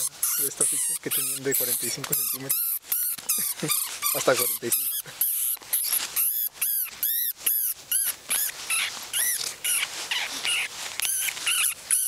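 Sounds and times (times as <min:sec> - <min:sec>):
bat squeaking: 0:00.0 - 0:12.0.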